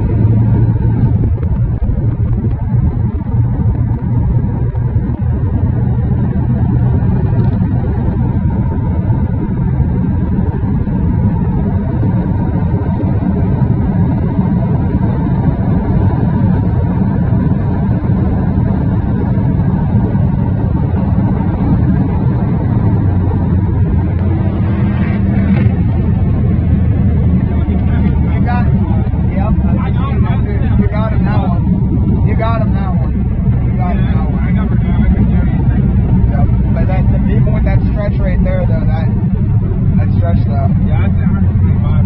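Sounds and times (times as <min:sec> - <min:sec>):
car engine running steadily: 0:00.0 - 0:42.0.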